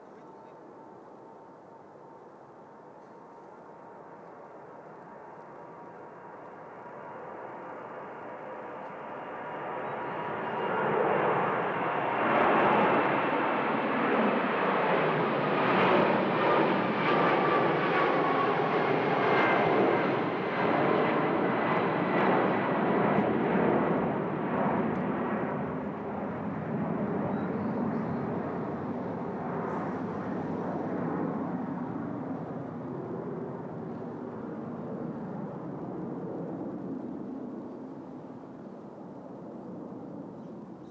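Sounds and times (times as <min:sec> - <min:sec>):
jet airliner passing: 0:03.6 - 0:40.9.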